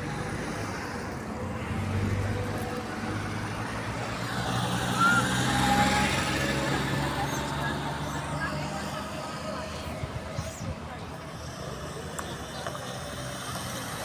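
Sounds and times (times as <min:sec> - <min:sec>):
roadside noise: 0:00.0 - 0:14.0
vehicle engine humming: 0:00.0 - 0:14.0.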